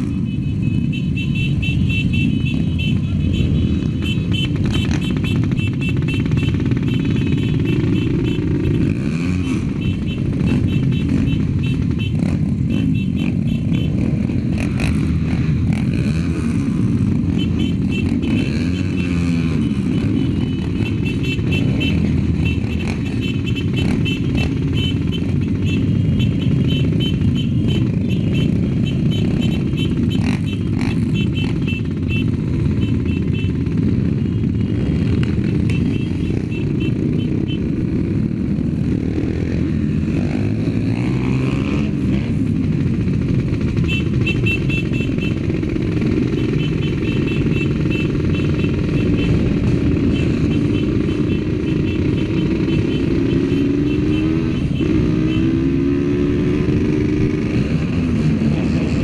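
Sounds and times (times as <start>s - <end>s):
motorcycle engines running: 0.0s - 59.0s.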